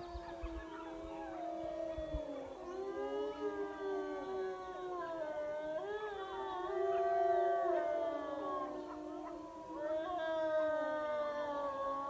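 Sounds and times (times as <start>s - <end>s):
wolves howling: 0.0s - 12.0s.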